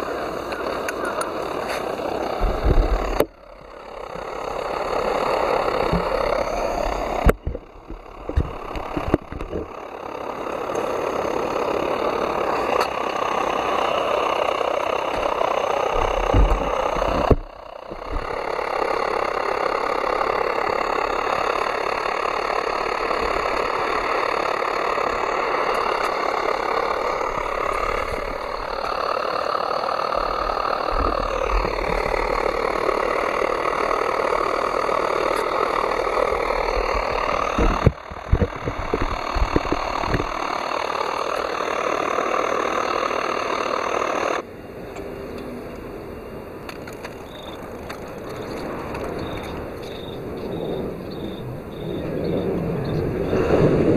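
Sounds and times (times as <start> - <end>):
stove burner roaring: 0.0 - 53.9.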